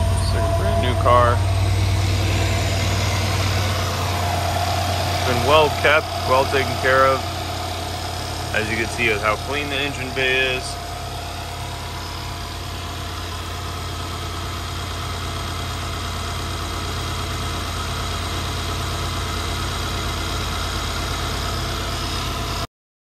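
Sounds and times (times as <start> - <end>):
car engine idling: 0.0 - 22.7.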